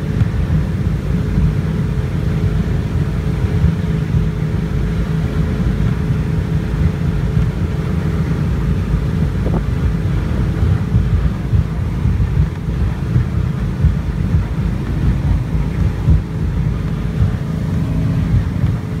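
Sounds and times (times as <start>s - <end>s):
motorboat engine running: 0.0s - 19.0s
wind buffeting microphone: 0.0s - 19.0s.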